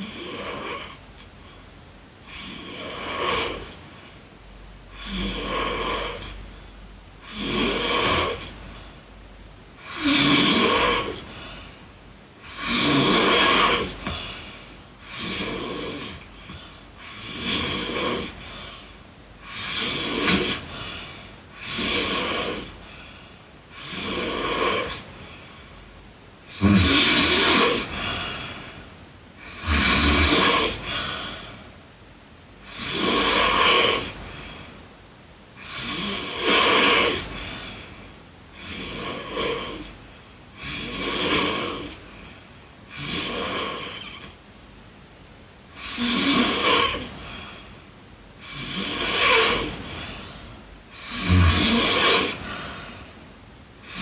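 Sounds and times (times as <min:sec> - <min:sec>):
girl snoring: 0:00.0 - 0:01.0, 0:02.2 - 0:04.1, 0:04.9 - 0:06.6, 0:07.2 - 0:08.9, 0:09.8 - 0:11.8, 0:12.4 - 0:25.8, 0:26.4 - 0:28.8, 0:29.4 - 0:31.7, 0:32.6 - 0:34.7, 0:35.6 - 0:44.4, 0:45.8 - 0:47.8, 0:48.4 - 0:53.2.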